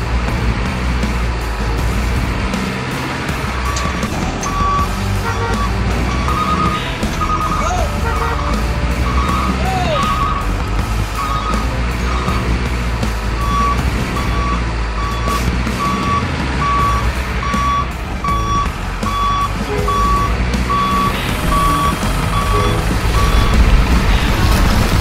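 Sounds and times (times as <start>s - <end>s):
low engine rumble: 0.0s - 25.0s
truck reversing alarm beeping: 3.3s - 25.0s.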